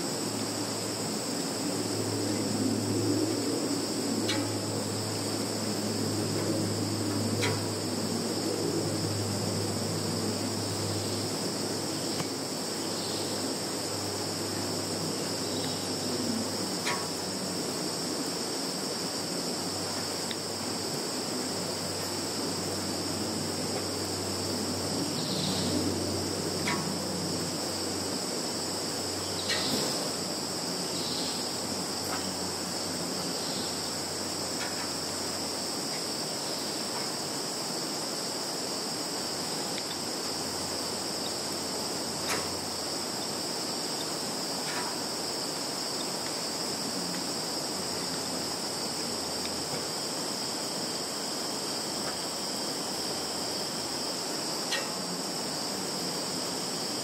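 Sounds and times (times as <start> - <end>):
field insects singing: 0.0 - 57.0.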